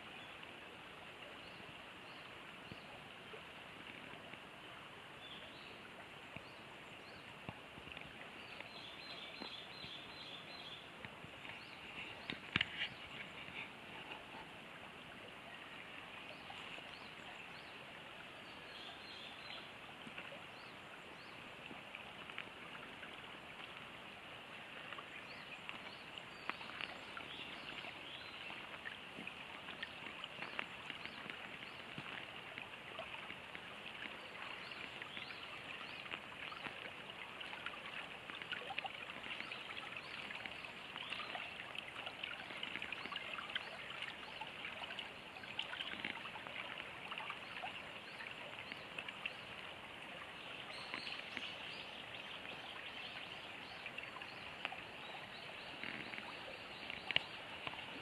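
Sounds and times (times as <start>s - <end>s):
water babbling in a ditch: 0.0s - 58.0s.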